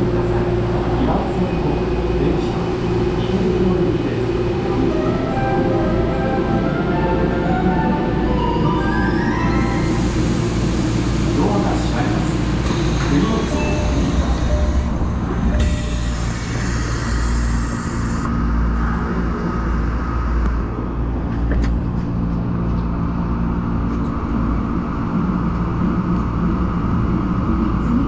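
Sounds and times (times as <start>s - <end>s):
subway train wheels rumbling on rail: 0.0s - 28.0s.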